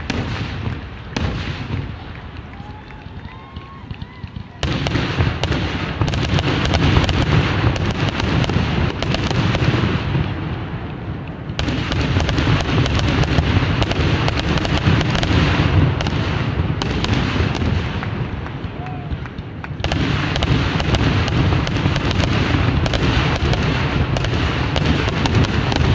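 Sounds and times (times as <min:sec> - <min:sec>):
fireworks booming and crackling: 0:00.0 - 0:25.9.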